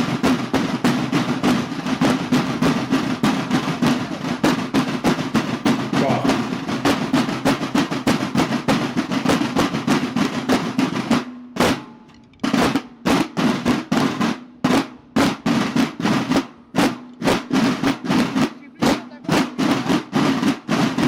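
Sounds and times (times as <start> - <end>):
marching snare and bass drums: 0.0 - 21.0.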